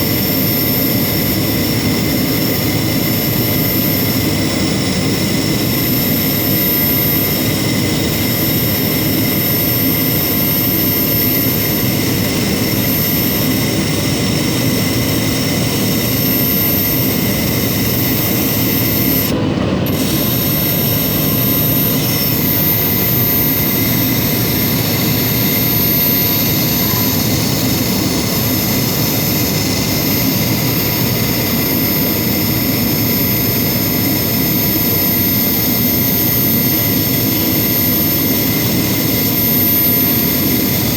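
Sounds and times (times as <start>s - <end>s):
machine whirring with high whines: 0.0s - 40.9s.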